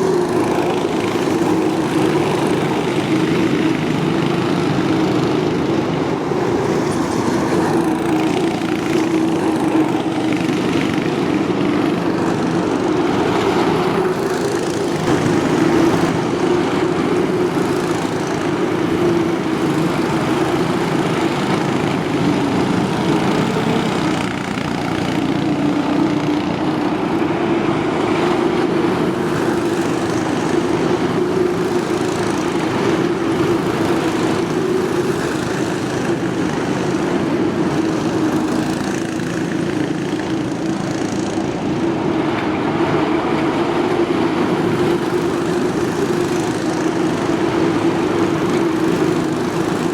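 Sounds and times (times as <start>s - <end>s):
small kart engines droning: 0.0s - 49.9s.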